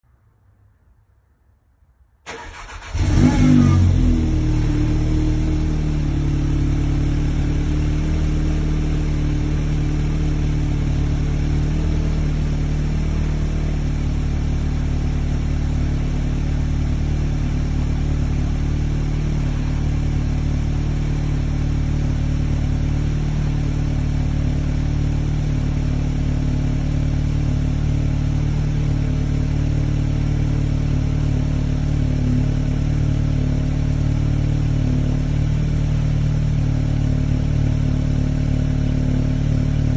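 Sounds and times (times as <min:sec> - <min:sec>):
car engine idling: 0:02.3 - 0:39.9.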